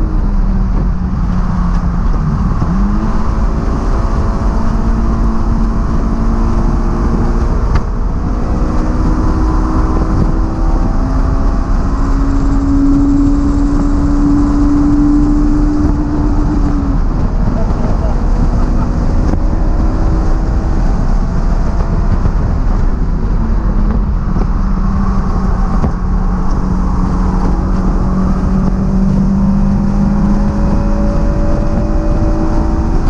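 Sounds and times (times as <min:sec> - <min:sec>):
high-revving car engine: 0:00.0 - 0:33.0
wind rush: 0:00.0 - 0:33.0.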